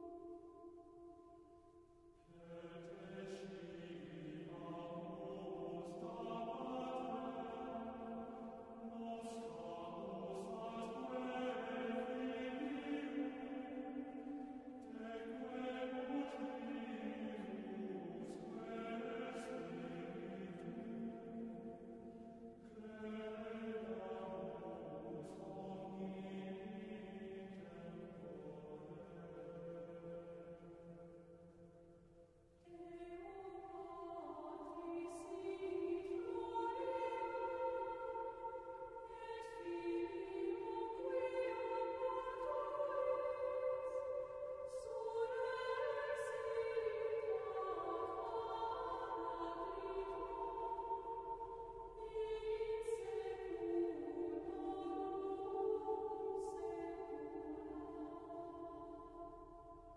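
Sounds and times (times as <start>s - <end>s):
slow vocal chant: 2.2s - 31.4s, 32.6s - 59.9s.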